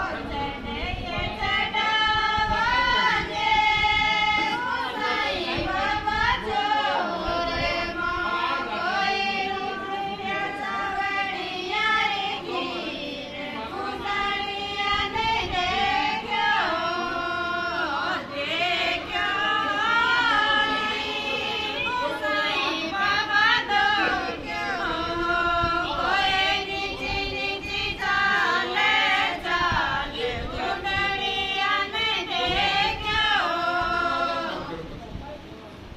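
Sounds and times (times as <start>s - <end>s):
women singing a devotional song: 0.0s - 35.0s.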